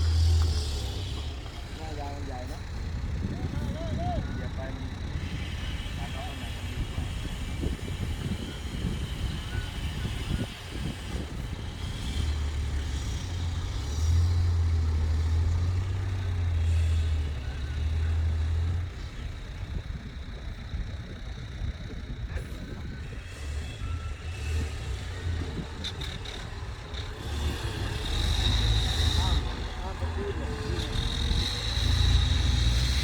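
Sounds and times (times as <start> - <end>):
diesel truck engine rumbling: 0.0 - 33.0.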